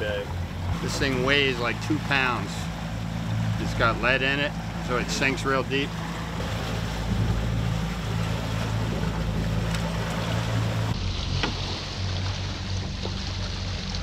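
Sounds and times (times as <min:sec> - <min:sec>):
boat engine humming: 0:00.0 - 0:14.0
water rushing along hull: 0:00.0 - 0:14.0
wind: 0:00.0 - 0:14.0.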